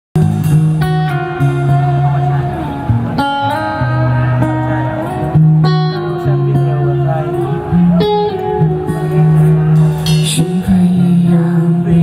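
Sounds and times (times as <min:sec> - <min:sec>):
guitar: 0:00.2 - 0:12.0
live band playing: 0:00.2 - 0:12.0.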